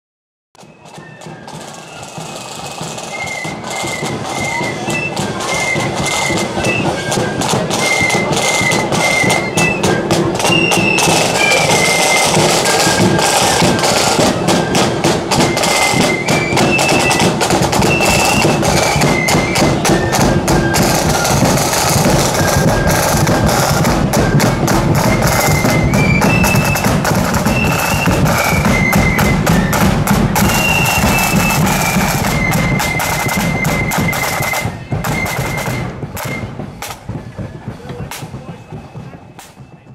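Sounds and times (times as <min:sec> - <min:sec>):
flute melody: 0:00.6 - 0:39.9
side drums beating: 0:00.6 - 0:39.9
bass drum: 0:07.3 - 0:39.9.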